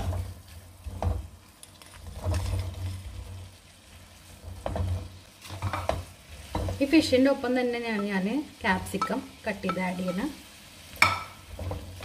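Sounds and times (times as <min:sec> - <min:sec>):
spatula knocking and scraping pan: 0:00.0 - 0:03.6, 0:04.2 - 0:12.0.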